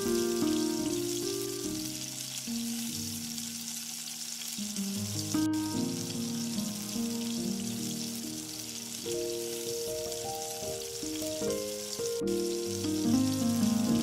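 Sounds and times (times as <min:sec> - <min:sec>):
background music of held notes: 0:00.0 - 0:02.9, 0:04.6 - 0:14.0
oil sizzling while deep-frying: 0:00.0 - 0:14.0.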